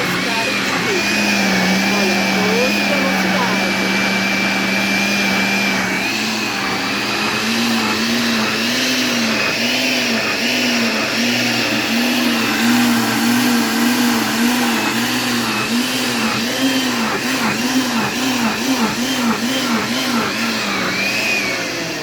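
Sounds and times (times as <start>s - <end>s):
blender running: 0.0s - 22.0s.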